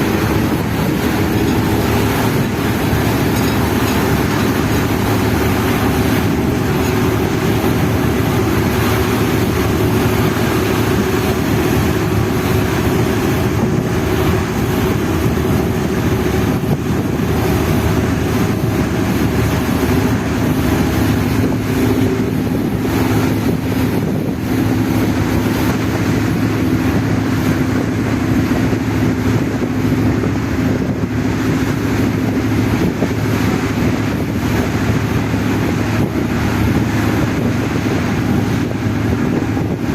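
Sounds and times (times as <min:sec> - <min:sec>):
ferry engine droning: 0:00.0 - 0:39.9
wind noise on microphone: 0:00.0 - 0:39.9.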